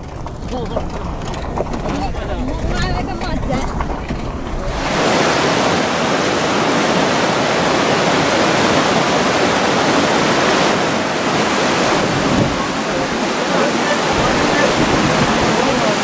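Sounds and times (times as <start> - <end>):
river rushing over rocks: 1.0 - 16.0.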